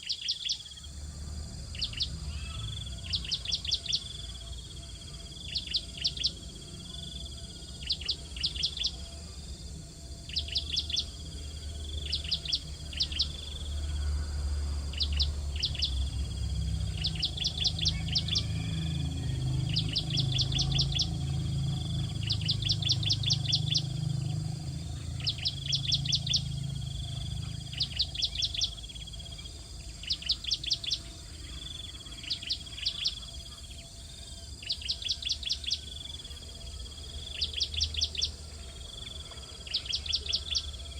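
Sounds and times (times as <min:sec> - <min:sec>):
steady high hum: 0:00.0 - 0:40.9.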